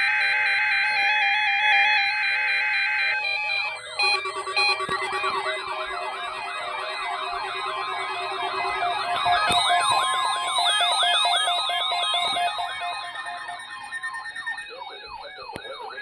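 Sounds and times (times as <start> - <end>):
electronic sirens wailing: 0.0 - 16.0
steady alarm tones: 0.0 - 16.0.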